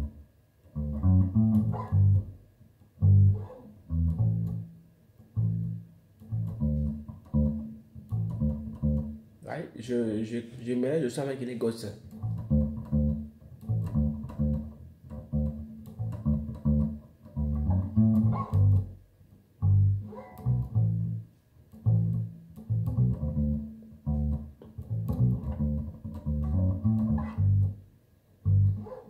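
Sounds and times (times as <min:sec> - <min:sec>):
plucked bass guitar: 0:00.0 - 0:09.2, 0:12.0 - 0:19.0, 0:19.6 - 0:29.0.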